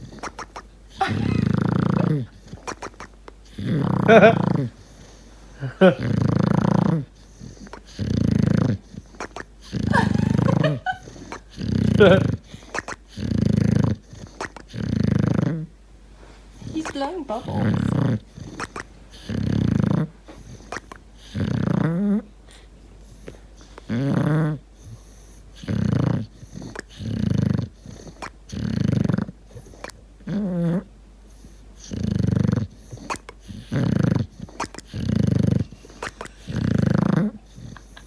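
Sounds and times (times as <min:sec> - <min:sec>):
dog snoring loudly: 0:00.0 - 0:15.7, 0:16.6 - 0:38.0.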